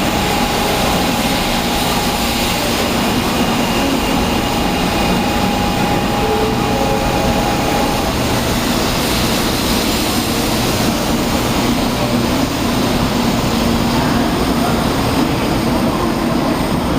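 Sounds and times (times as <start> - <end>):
train rushing rumble: 0.0 - 16.9.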